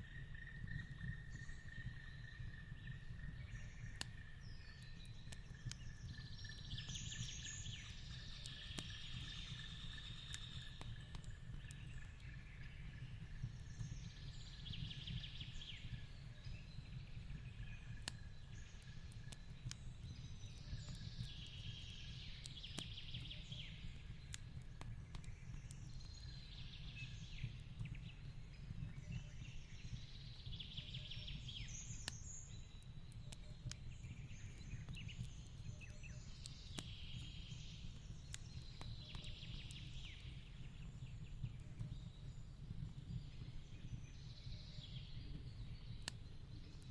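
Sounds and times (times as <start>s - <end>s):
wood fire crackling: 0.2s - 46.9s.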